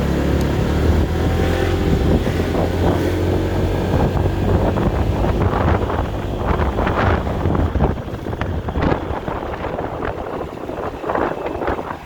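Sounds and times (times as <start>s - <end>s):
vehicle engine running: 0.0s - 12.0s
wind rushing over microphone: 0.0s - 12.0s.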